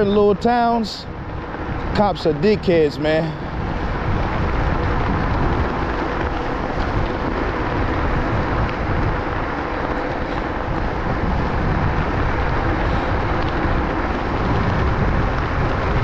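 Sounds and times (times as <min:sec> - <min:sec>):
tyre noise on asphalt: 0:00.0 - 0:16.0
wind rush on microphone: 0:00.0 - 0:16.0.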